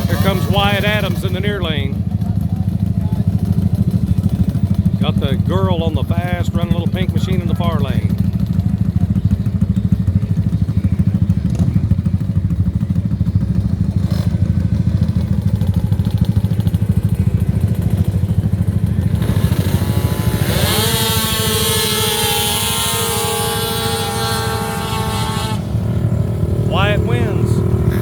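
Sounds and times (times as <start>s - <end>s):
quad engines revving: 0.0s - 28.0s.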